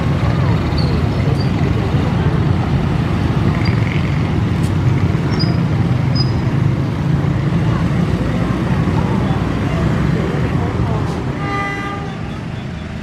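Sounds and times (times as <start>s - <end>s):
motorbikes passing: 0.0s - 13.0s.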